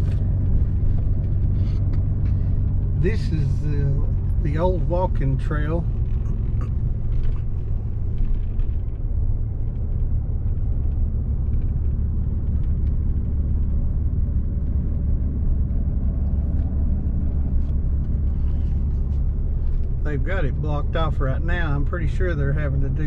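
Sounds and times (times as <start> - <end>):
car interior engine and road noise: 0.0 - 23.0.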